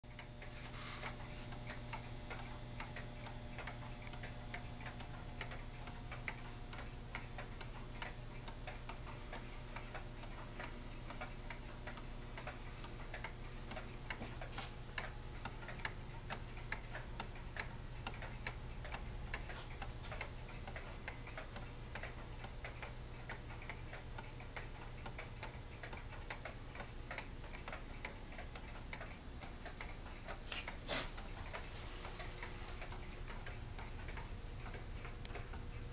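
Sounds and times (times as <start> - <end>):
pendulum clocks ticking: 0.1 - 35.9
steady low hum: 0.1 - 35.9.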